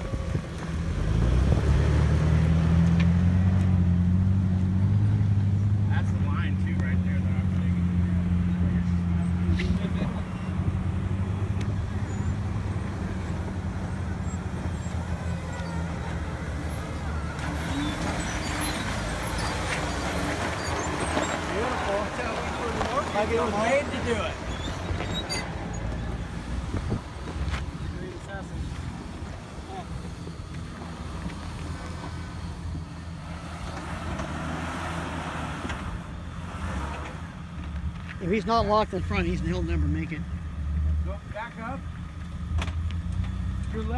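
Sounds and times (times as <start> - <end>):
car engine running at low revs: 0.0 - 43.9.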